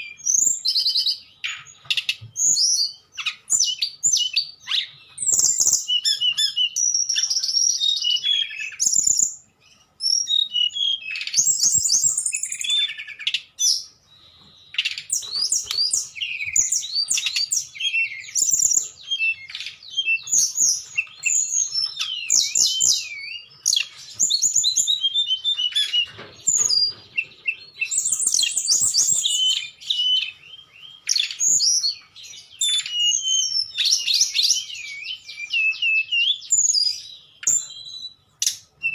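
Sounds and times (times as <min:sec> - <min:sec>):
bird singing whistles and chirps: 0:00.0 - 0:38.9.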